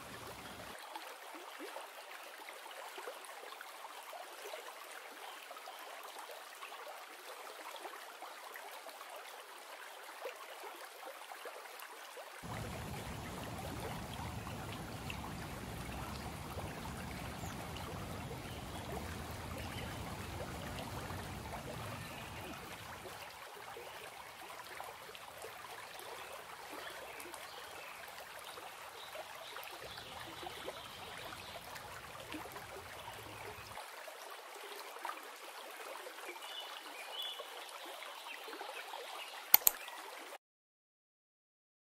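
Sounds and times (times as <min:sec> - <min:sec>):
water rushing and trickling: 0:00.0 - 0:40.4.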